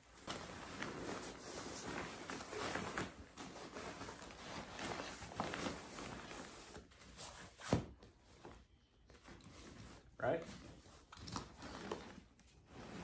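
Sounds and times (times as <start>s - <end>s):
nylon bags rustling and scraping: 0.0s - 7.8s, 9.2s - 13.0s.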